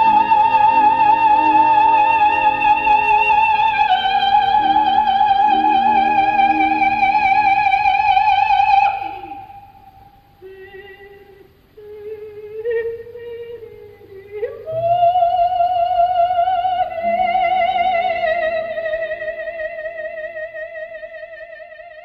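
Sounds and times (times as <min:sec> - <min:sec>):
operatic soprano singing: 0:00.0 - 0:22.0.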